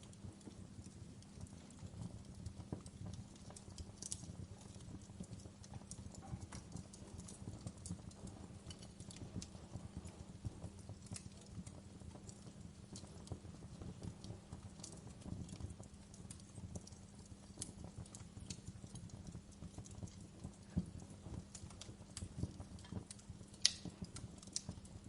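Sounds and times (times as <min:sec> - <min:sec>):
fire popping and snapping: 0:00.0 - 0:25.0
wood fire crackling: 0:00.0 - 0:25.0.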